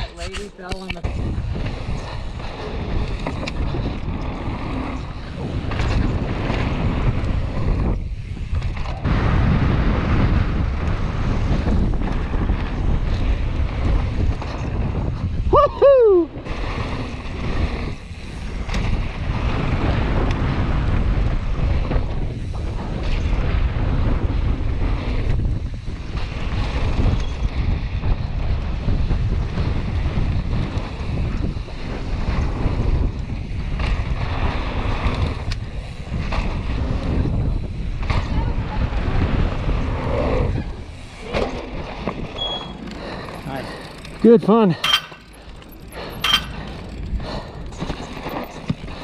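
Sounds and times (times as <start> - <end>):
bike tyres rumbling on dirt: 0.0 - 49.0
wind buffeting microphone: 0.0 - 49.0.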